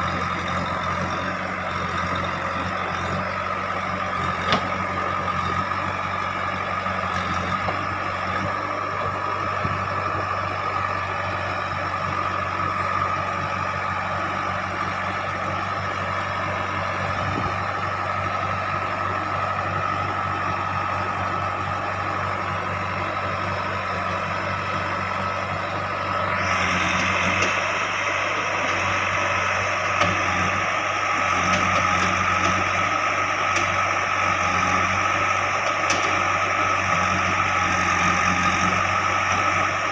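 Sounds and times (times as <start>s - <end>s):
diesel engine running with whine: 0.0s - 39.9s.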